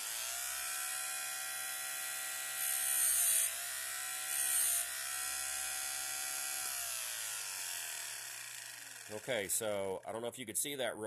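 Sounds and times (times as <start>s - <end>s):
electric grinder whining: 0.0s - 9.6s
grinding wheel rasping on metal: 0.0s - 9.7s.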